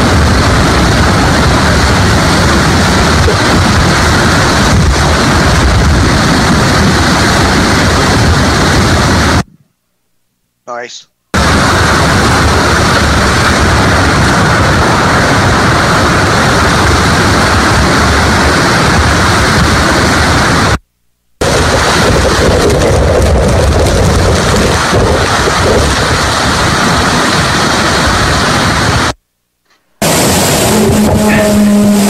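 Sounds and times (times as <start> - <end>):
wind and heavy rain rushing: 0.0 - 9.6, 11.3 - 20.8, 21.4 - 29.2, 30.0 - 32.0.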